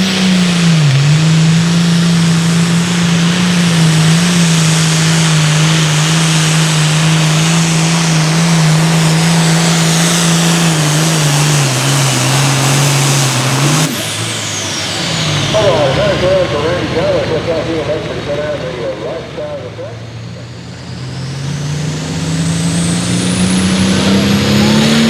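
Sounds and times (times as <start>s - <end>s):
diesel tractor engine at full throttle: 0.0s - 25.0s.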